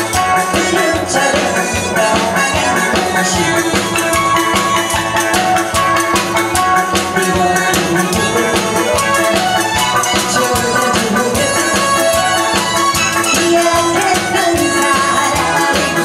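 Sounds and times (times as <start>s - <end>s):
drum beat: 0.0s - 16.0s
upbeat stage music: 0.0s - 16.0s.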